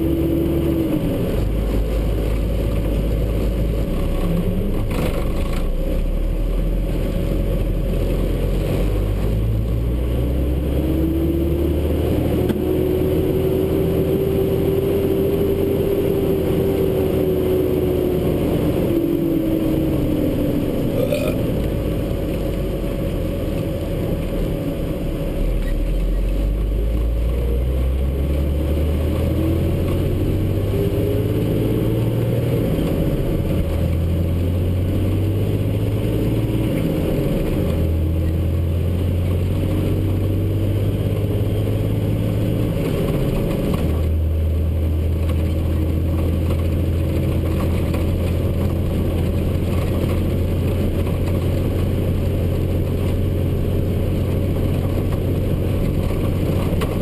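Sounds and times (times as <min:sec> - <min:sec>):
diesel truck engine: 0:00.0 - 0:57.0
rising and falling whine: 0:00.0 - 0:57.0
road noise: 0:00.0 - 0:57.0.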